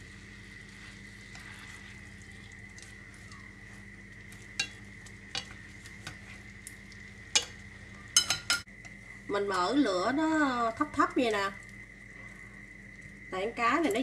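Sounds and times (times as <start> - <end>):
liquid sizzling and bubbling in a pan: 0.0 - 14.0.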